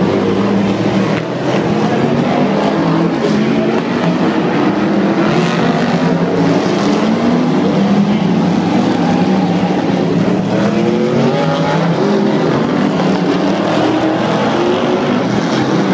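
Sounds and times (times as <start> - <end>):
race car engines revving: 0.0 - 15.9.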